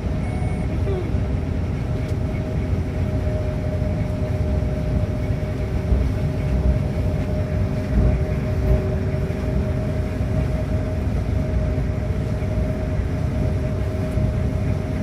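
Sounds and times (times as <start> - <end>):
combine harvester engine rumble: 0.0 - 15.0
steady hum tones: 0.0 - 15.0.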